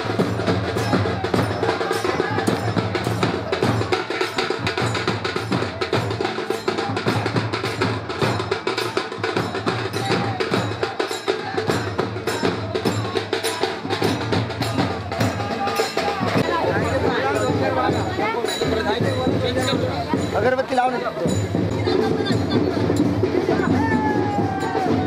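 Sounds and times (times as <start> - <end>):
drums: 0.0 - 25.0
hand percussion clacking: 0.0 - 25.0.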